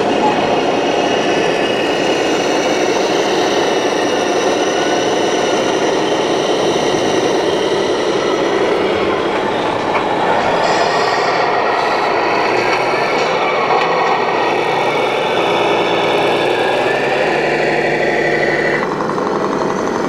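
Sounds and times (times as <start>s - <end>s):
model trucks engine drone: 0.0s - 20.0s.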